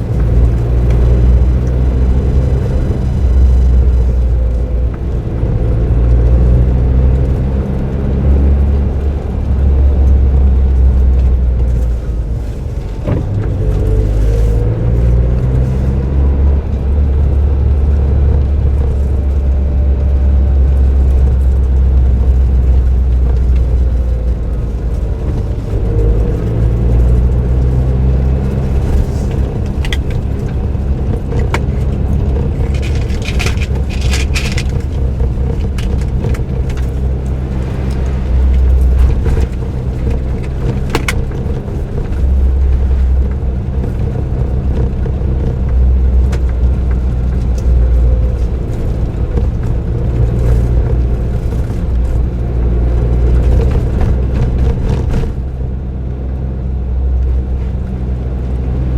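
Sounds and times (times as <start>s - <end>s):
car engine droning: 0.0s - 58.9s.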